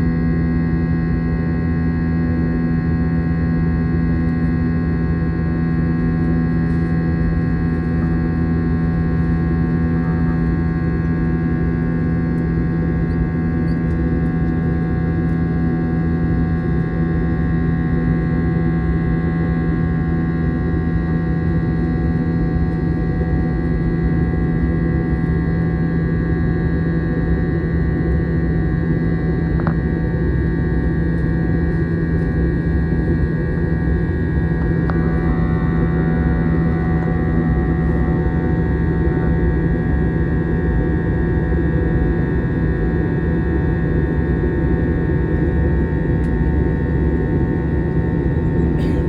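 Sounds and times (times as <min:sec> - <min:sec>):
airplane cabin drone: 0:00.0 - 0:49.0
constant tonal hum: 0:00.0 - 0:49.0.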